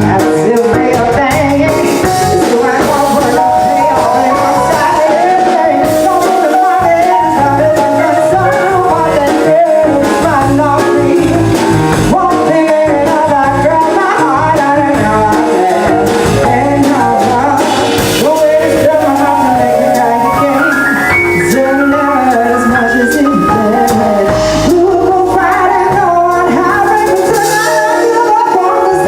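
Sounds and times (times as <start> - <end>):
bass guitar: 0.0 - 29.0
drums: 0.0 - 29.0
electric keyboard: 0.0 - 29.0
person singing: 0.0 - 29.0.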